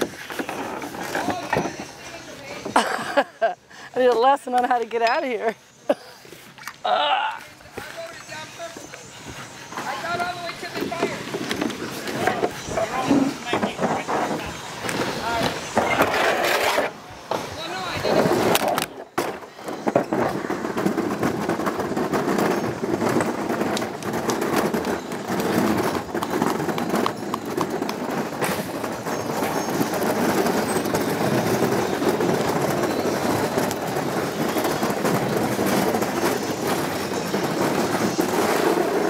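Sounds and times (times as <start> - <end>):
sled wheels rolling over boards: 0.0 - 5.6, 6.3 - 39.0.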